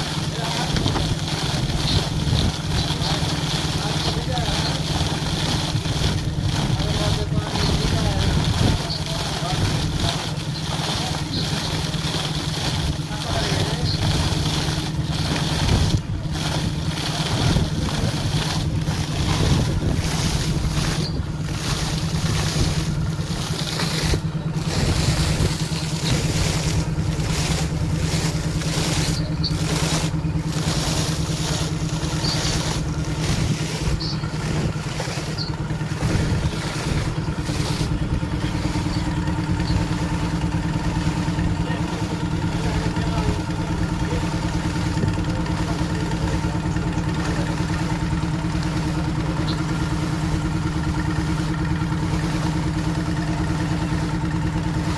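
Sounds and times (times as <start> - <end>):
compressor engine hum: 0.0 - 54.9.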